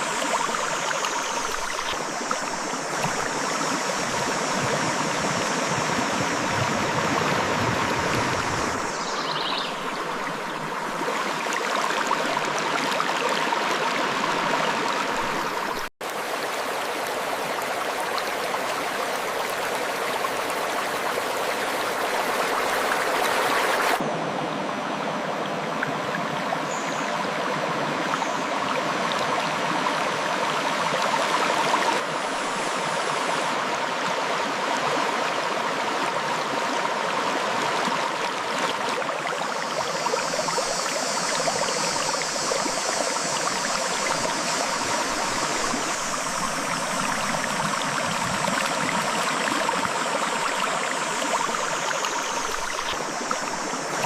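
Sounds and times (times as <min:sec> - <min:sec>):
river water rushing over rocks: 0:00.0 - 0:26.5, 0:27.3 - 0:54.0.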